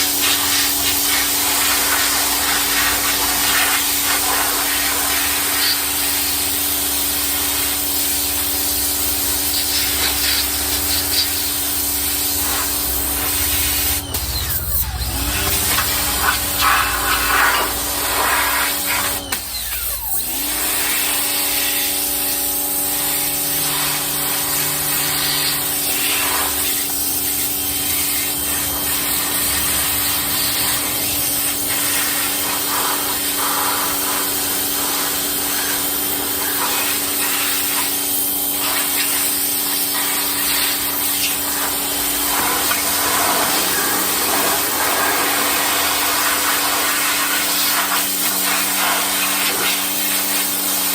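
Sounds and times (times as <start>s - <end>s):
pressure washer motor hum: 0.0s - 50.9s
water spray hissing: 0.0s - 50.9s.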